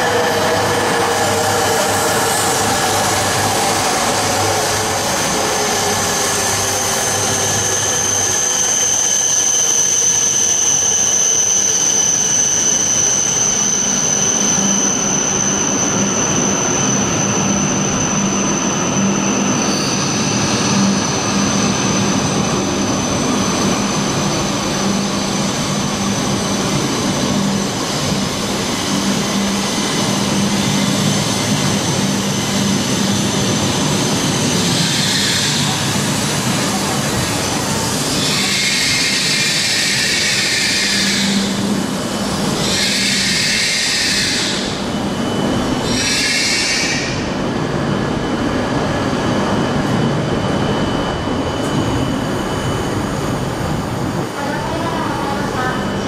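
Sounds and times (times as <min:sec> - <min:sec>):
train motor whine: 0:00.0 - 0:54.3
steady high whine: 0:00.0 - 0:56.0.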